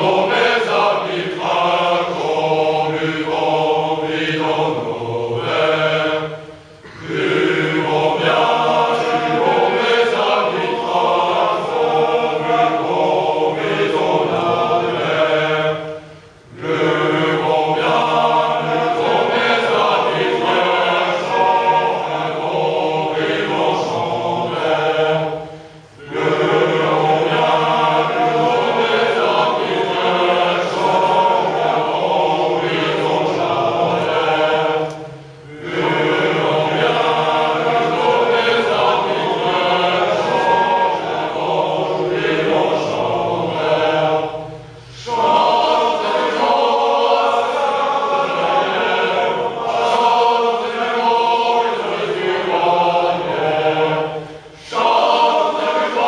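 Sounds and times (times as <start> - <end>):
male chorus singing: 0.0 - 56.0.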